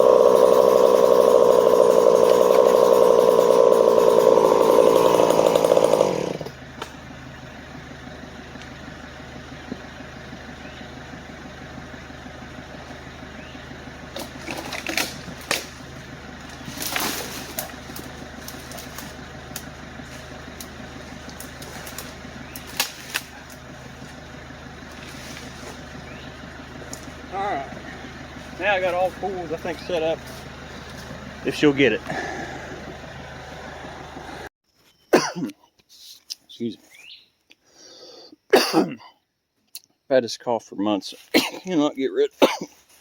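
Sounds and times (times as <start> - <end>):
low engine idle: 0.0 - 34.5
small engine running fast: 0.0 - 34.5.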